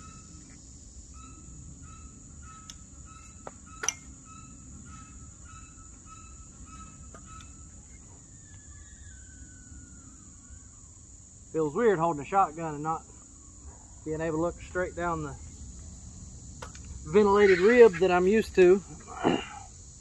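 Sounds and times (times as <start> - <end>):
birds chirping: 0.0 - 10.9, 11.5 - 20.0
crickets droning: 0.0 - 20.0.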